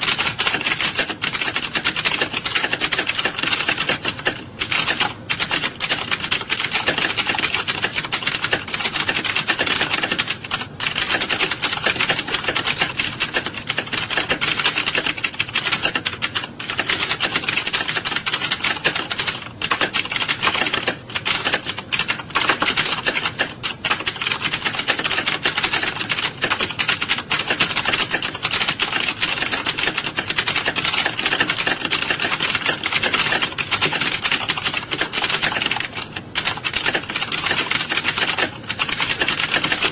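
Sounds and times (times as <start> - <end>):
keyboard typing clatter: 0.0 - 39.9.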